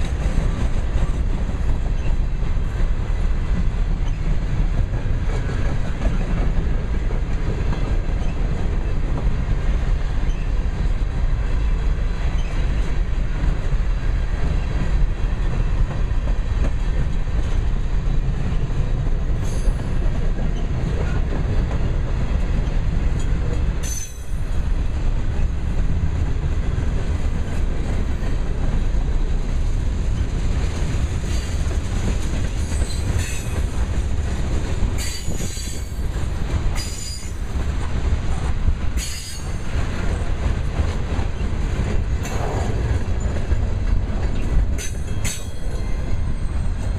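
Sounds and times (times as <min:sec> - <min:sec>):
clickety-clack over rail joints: 0:00.0 - 0:46.9
train wheels rumbling on rails: 0:00.0 - 0:46.9.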